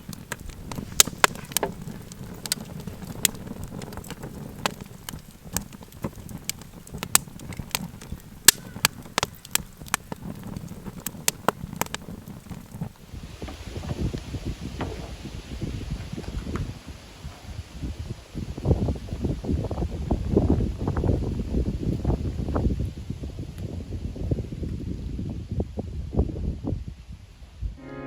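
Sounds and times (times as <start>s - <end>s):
burning wood crackling: 0.0s - 25.5s
low rumble of flames: 0.0s - 27.8s.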